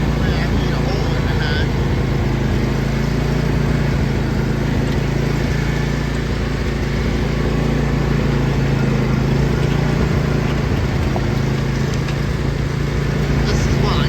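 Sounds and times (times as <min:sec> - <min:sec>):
riding lawn mower engine running: 0:00.0 - 0:14.0.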